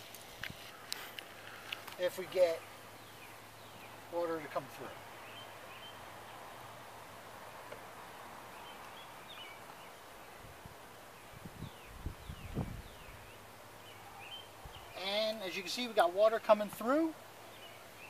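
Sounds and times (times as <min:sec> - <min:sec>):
birds chirping: 0:00.0 - 0:18.0
steady hiss: 0:00.0 - 0:18.0.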